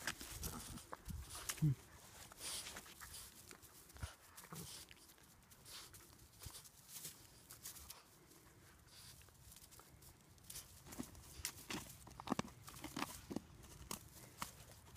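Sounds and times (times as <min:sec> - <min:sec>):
rustling in dry grass: 0:00.0 - 0:14.9.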